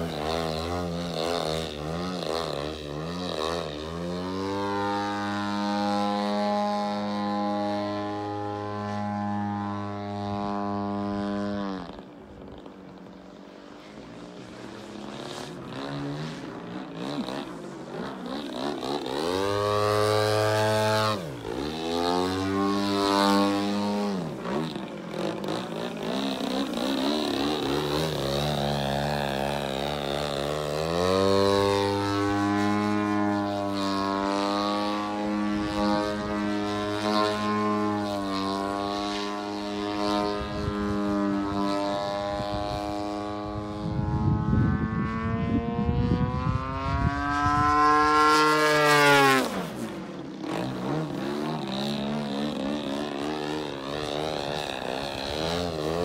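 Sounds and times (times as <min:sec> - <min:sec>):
model airplane motor and propeller: 0:00.0 - 0:56.0.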